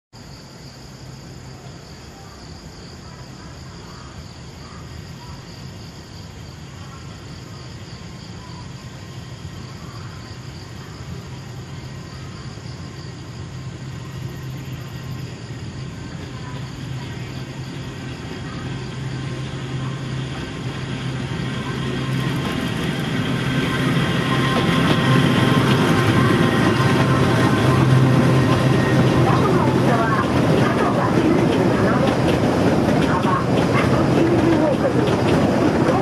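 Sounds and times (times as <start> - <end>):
electric train rumbling: 0.2 - 36.0
insects buzzing: 0.2 - 36.0.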